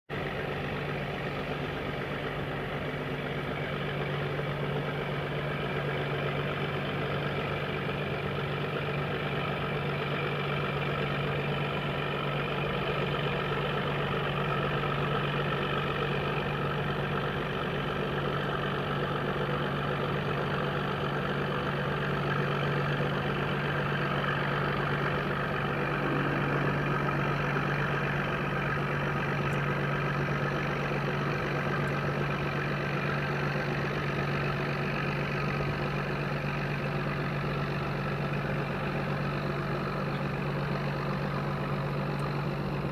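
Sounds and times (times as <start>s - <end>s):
ship diesel engine hum: 0.1s - 42.9s.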